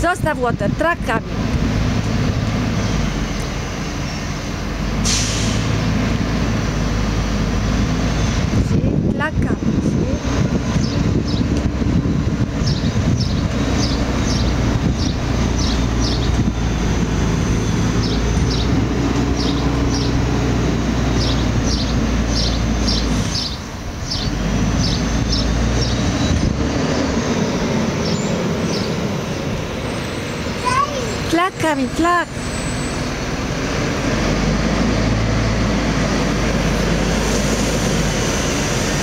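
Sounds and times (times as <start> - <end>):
garbage truck engine rumbling: 0.0 - 39.0.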